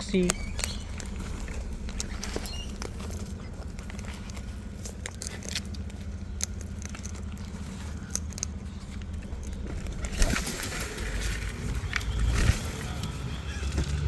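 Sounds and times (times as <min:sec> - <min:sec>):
beaks picking at seed in bucket: 0:00.0 - 0:14.0
low steady rumble: 0:00.0 - 0:14.0.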